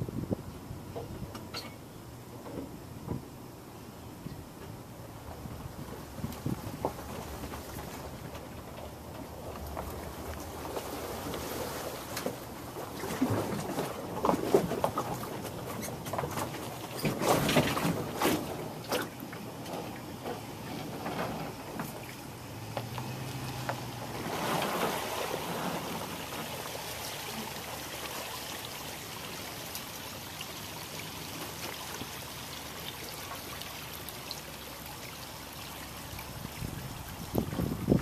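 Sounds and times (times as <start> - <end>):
water washing along boat hull: 4.7 - 38.0.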